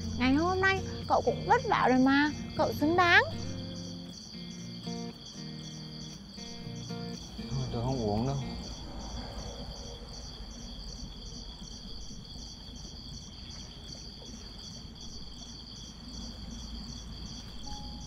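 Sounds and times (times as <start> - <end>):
low background rumble: 0.0 - 4.6, 7.2 - 18.0
insects chirping: 0.0 - 18.0.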